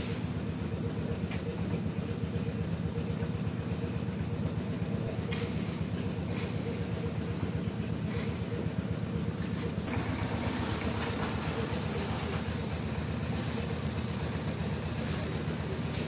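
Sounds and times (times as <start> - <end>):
construction equipment engine running: 0.0 - 16.0.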